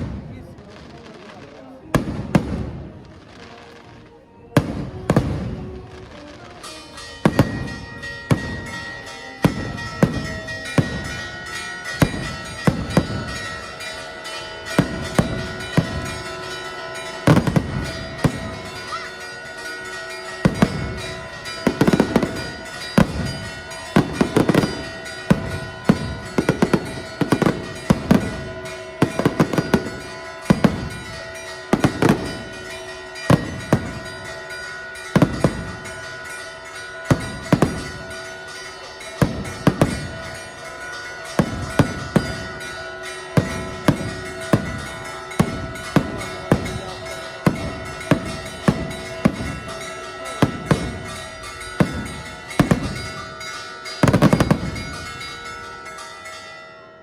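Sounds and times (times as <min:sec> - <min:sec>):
fireworks bursting with sharp bangs: 0:00.0 - 0:55.6.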